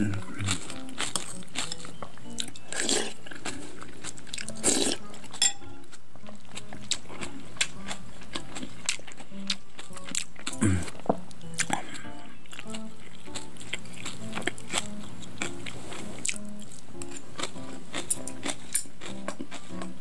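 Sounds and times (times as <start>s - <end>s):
crunching and chewing: 0.0s - 20.0s.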